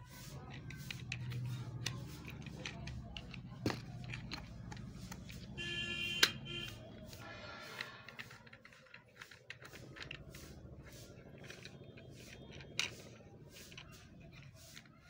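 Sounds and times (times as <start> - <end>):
plastic holder clicking and rubbing: 0.0 - 15.0.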